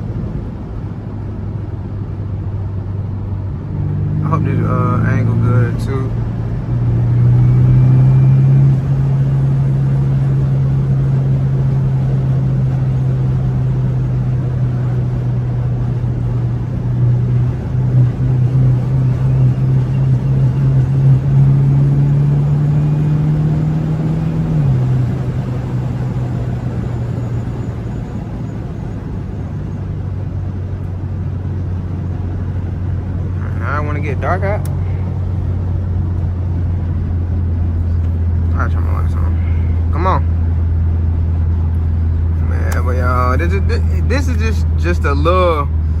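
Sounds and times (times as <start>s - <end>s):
car engine heard from cabin: 0.0s - 46.0s.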